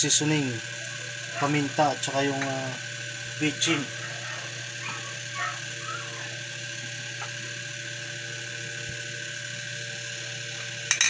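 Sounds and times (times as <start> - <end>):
electrical hum with whine: 0.0 - 11.0.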